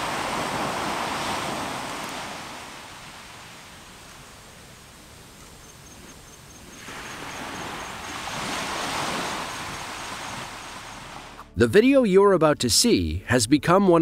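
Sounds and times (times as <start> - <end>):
surf washing on shore: 0.0 - 11.4
wind: 0.0 - 12.4.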